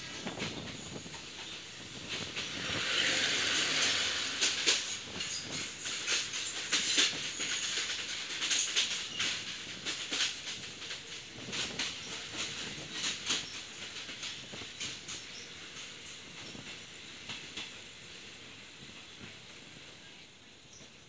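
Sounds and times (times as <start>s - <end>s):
train wheels clattering over rail joints: 0.0s - 19.9s
passing train rush: 0.0s - 21.0s.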